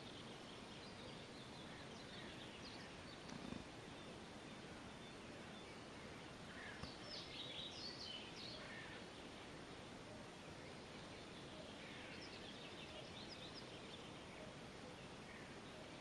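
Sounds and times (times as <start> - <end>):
faint birdsong chirps: 0.0 - 16.0
steady hiss: 0.0 - 16.0.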